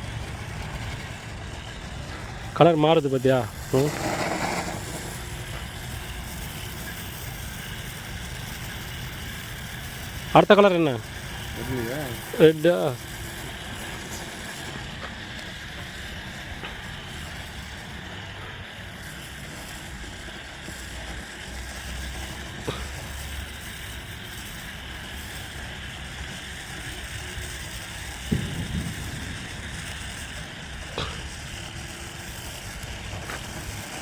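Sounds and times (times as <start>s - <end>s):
firework burning with hiss: 0.0s - 34.0s.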